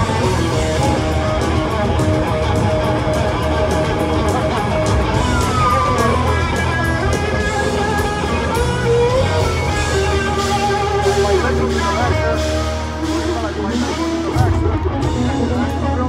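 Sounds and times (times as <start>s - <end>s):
electric guitar solo: 0.0s - 16.0s
rock band playing: 0.0s - 16.0s.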